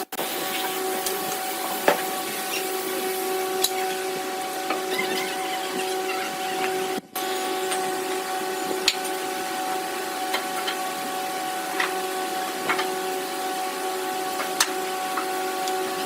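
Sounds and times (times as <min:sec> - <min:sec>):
electric motor humming: 0:00.6 - 0:16.0.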